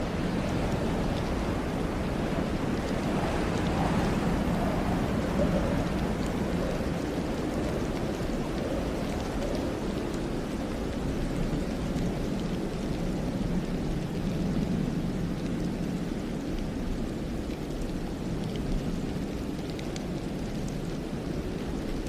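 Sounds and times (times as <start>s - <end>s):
light ticks of falling snow: 0.0s - 22.0s
wind rushing through pines: 0.0s - 22.0s.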